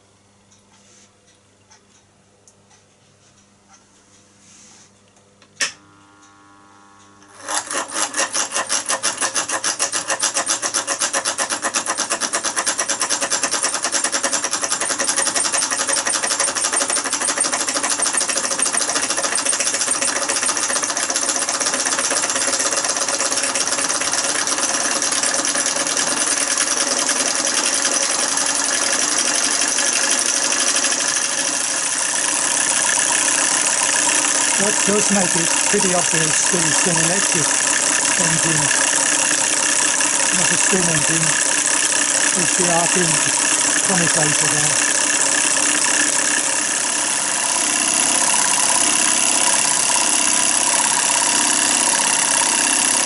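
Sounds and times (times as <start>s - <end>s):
solenoid engine clattering: 7.3s - 53.0s.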